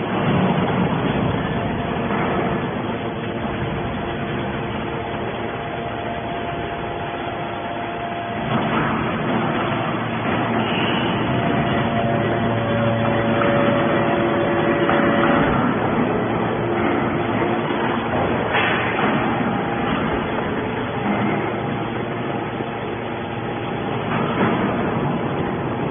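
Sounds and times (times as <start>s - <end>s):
hydraulic baler drone: 0.0s - 25.9s.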